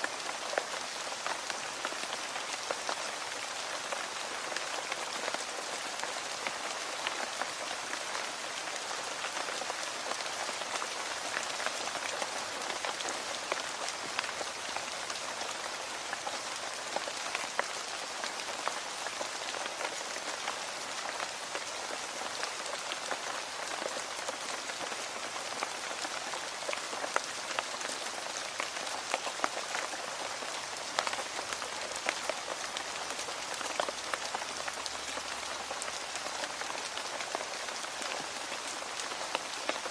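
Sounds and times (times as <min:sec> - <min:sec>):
raindrops pattering on hard surface: 0:00.0 - 0:39.9
steady rain hiss: 0:00.0 - 0:39.9.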